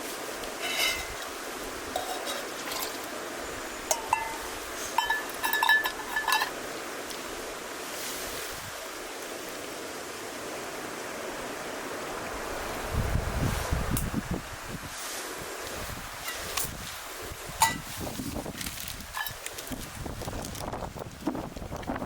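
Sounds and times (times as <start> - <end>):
river rushing: 0.0 - 20.1.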